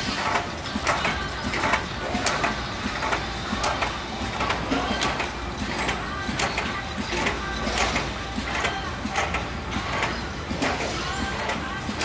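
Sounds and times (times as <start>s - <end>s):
conveyor clacks and clatters: 0.0s - 12.0s
machine humming: 0.0s - 12.0s.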